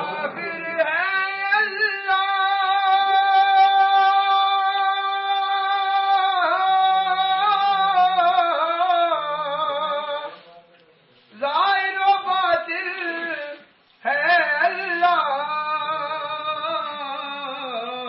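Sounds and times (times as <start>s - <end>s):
person singing a chant: 0.0s - 10.4s, 11.4s - 18.0s.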